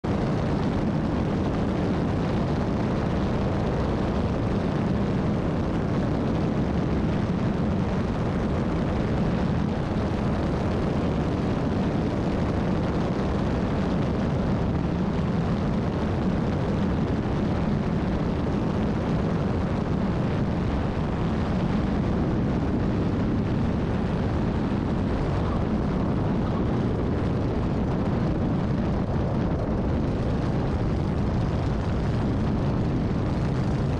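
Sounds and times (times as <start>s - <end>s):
propeller aircraft engine: 0.0s - 33.9s
wind noise on camera: 0.0s - 33.9s.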